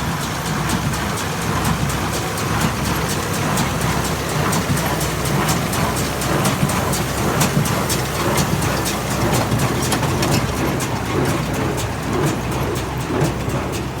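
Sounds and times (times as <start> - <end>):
hay baler mechanism knocking: 0.0 - 14.0
tractor engine running under load: 0.0 - 14.0.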